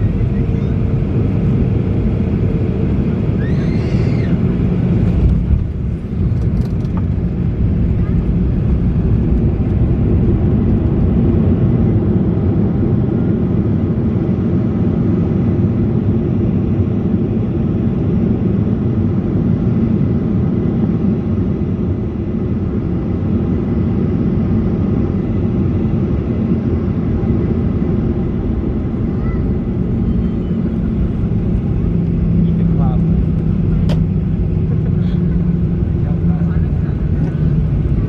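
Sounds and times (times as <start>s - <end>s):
airplane engine rumble in cabin: 0.0s - 38.0s.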